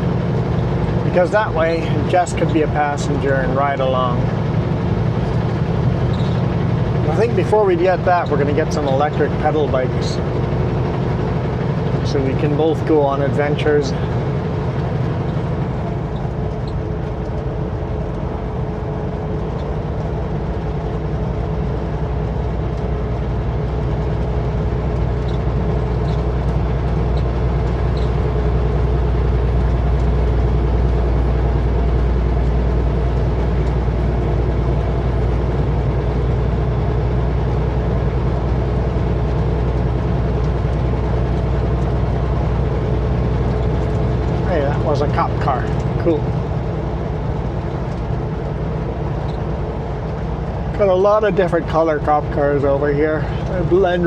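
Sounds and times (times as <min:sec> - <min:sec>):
road noise: 0:00.0 - 0:54.0
truck diesel engine droning: 0:00.0 - 0:54.0.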